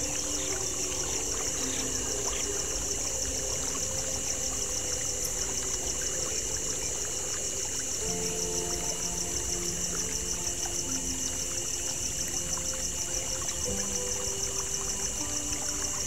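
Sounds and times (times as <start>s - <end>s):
creek water trickling: 0.0s - 16.0s.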